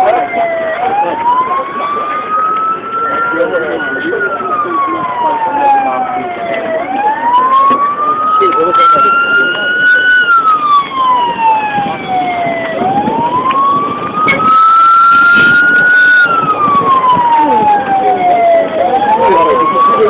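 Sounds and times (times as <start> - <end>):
crowd voices: 0.0 - 20.0
emergency siren wailing: 0.0 - 20.0.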